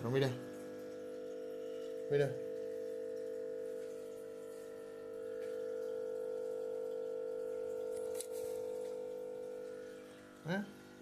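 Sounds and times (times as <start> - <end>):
small motor humming: 0.0 - 11.0.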